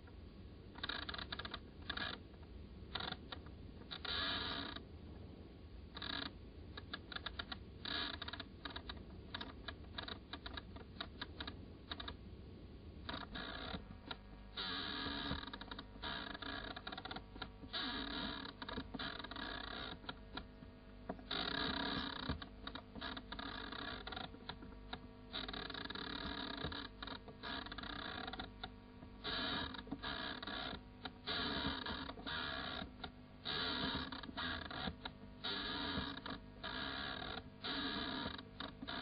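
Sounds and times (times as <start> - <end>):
steady low hum: 0.0 - 39.0
scratchy mechanical noise: 2.9 - 4.8, 6.0 - 12.2, 13.0 - 39.0.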